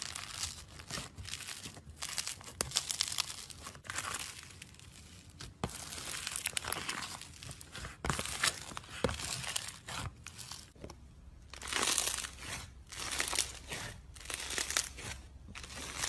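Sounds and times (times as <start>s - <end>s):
slime crackling and popping: 0.0s - 10.8s, 11.5s - 16.0s.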